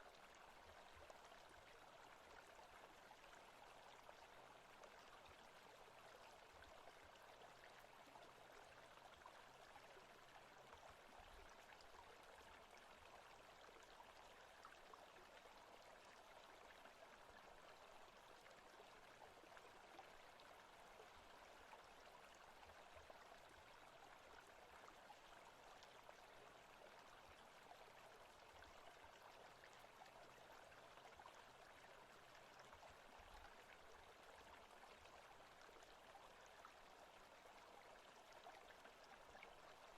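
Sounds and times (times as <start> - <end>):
stream flowing: 0.1 - 39.9.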